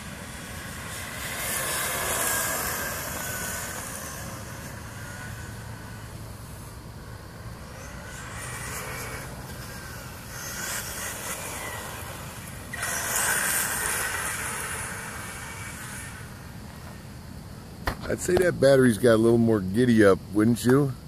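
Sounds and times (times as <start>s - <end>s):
electric motor whine: 0.0s - 17.4s.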